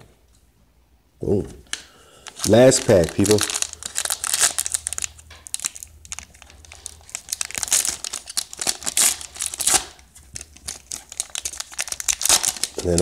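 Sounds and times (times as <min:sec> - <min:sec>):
plastic wrapper crinkling: 0:02.2 - 0:13.0.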